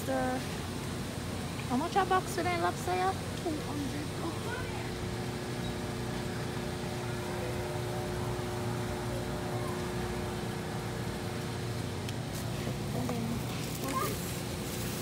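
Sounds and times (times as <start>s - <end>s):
refrigeration and fans humming: 0.0s - 15.0s.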